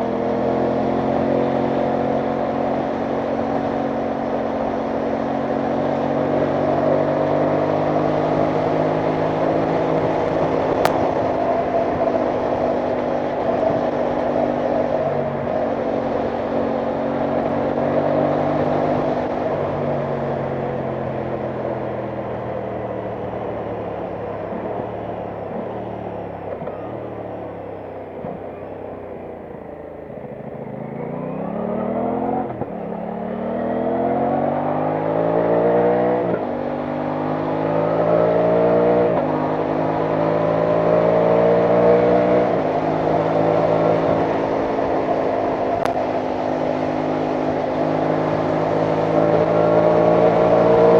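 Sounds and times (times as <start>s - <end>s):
motorcycle engine: 0.0s - 50.9s.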